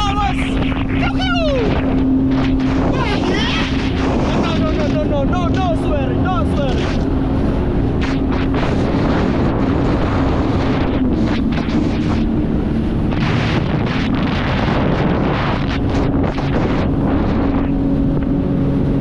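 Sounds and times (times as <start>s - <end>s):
jet ski engine hum: 0.0s - 19.0s
water splashing against hull: 0.0s - 19.0s
wind noise on microphone: 0.0s - 19.0s.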